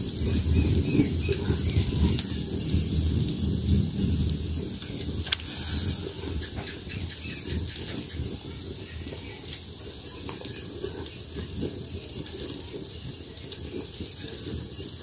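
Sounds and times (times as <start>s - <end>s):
broth boiling and bubbling: 0.0s - 15.0s
fire crackles: 0.0s - 15.0s
steam hissing: 0.0s - 15.0s.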